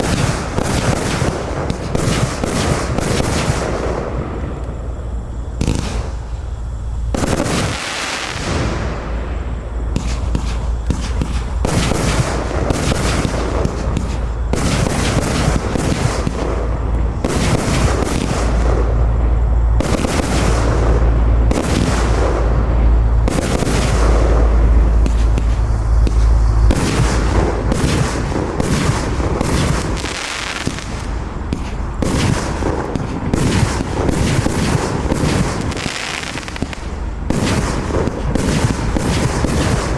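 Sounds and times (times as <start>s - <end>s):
deep booms: 0.0s - 35.8s
fireworks barrage: 0.0s - 39.9s.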